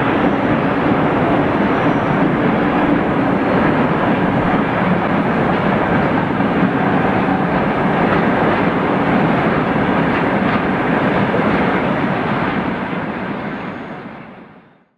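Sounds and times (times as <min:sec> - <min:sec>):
freight train wheels rumbling: 0:00.0 - 0:14.8.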